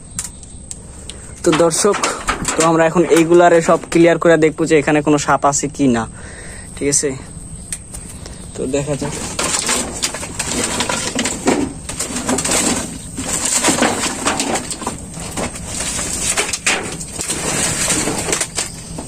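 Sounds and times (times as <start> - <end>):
wooden planks clattering and scraping: 1.0 - 5.5, 7.9 - 19.0.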